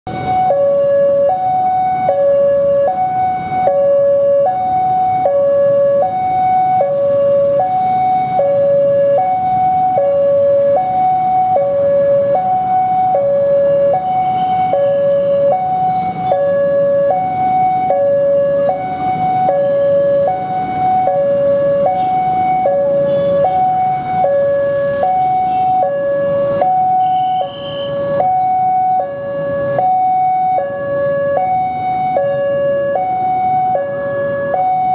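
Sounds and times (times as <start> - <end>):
road traffic: 0.0 - 34.9
two-tone crossing alarm: 0.1 - 34.9.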